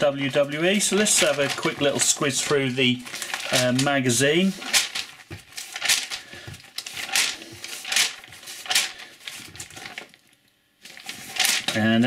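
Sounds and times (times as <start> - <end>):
magazine pages turning: 0.0 - 12.0.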